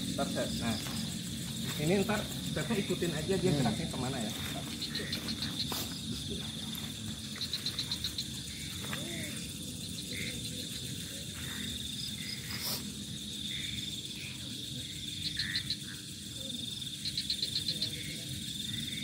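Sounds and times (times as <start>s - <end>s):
crickets trilling: 0.0s - 19.0s
quick cricket chirps: 0.0s - 19.0s.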